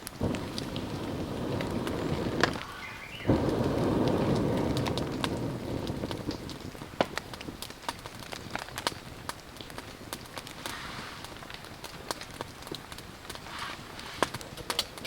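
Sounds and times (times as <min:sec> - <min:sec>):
sharp raindrop ticks: 0:00.0 - 0:15.0
steady rain falling: 0:00.0 - 0:15.0.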